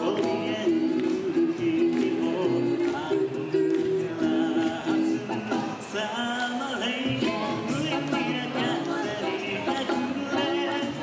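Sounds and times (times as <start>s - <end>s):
a cappella group singing: 0.0s - 11.0s
vocal percussion beat: 0.0s - 11.0s.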